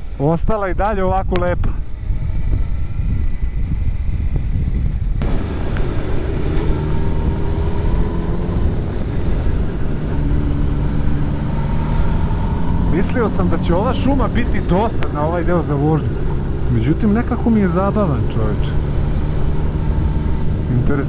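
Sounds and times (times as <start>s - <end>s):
wind noise: 0.0s - 21.0s.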